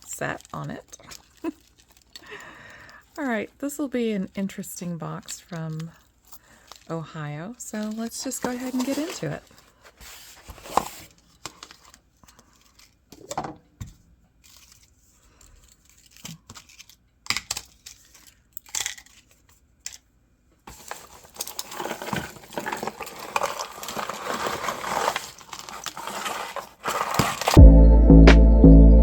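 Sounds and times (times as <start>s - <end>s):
packaging rustling and rattling: 0.0s - 3.4s, 4.4s - 7.0s, 7.6s - 13.5s, 14.4s - 20.0s, 20.7s - 27.6s.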